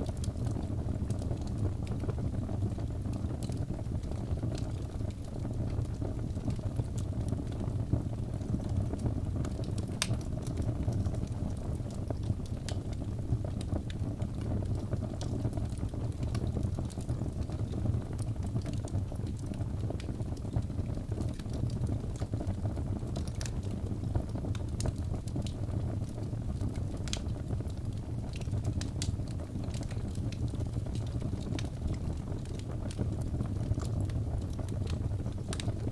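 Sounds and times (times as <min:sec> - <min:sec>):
fire crackling and popping: 0:00.0 - 0:35.9.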